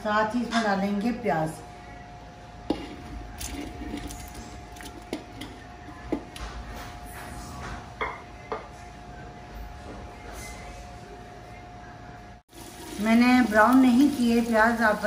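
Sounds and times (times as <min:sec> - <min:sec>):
faint steady hum: 0:00.0 - 0:14.7.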